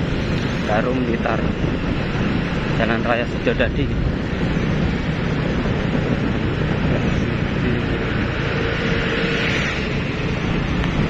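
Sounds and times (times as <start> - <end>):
motorcycle engine: 0.0 - 11.0
wind rumble: 0.0 - 11.0.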